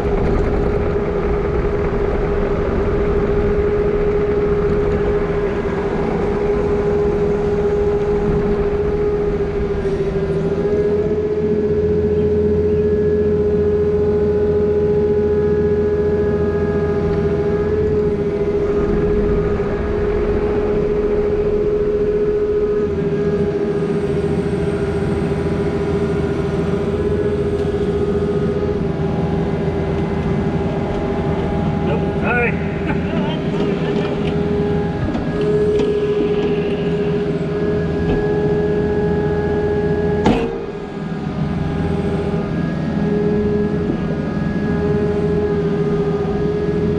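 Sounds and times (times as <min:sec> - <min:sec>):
diesel engine running: 0:00.0 - 0:46.9
steady whine: 0:00.0 - 0:46.9.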